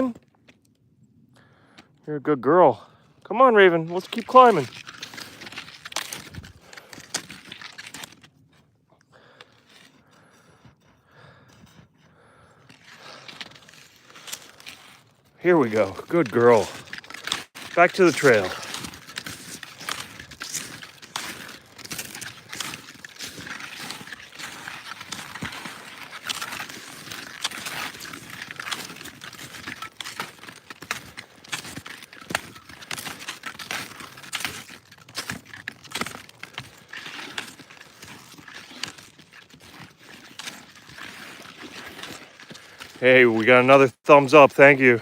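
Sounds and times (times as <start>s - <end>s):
skis crunching on snow: 3.3s - 45.0s.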